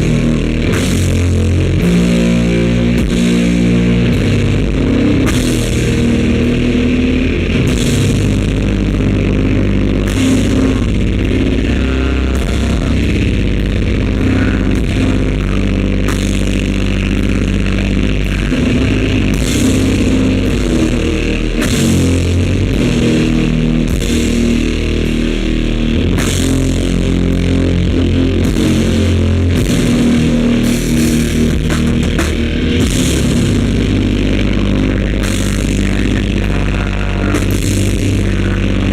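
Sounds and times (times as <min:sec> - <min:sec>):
distorted guitar and bass: 0:00.0 - 0:38.9
drums: 0:00.0 - 0:38.9.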